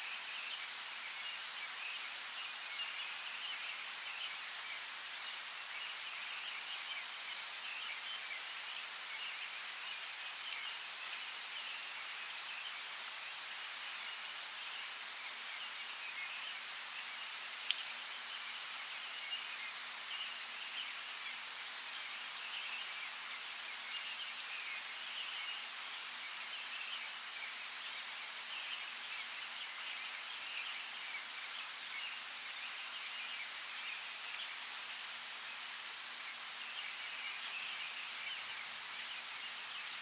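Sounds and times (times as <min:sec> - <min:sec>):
falling rain hiss: 0:00.0 - 0:40.0.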